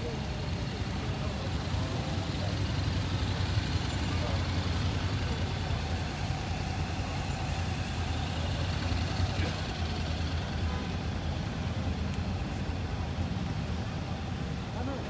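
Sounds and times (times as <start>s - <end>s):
vehicle engines humming past: 0.0s - 15.0s.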